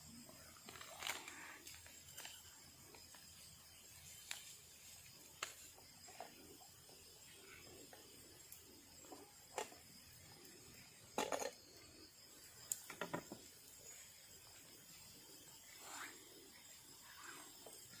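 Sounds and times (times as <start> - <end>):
night insects humming: 0.0 - 18.0.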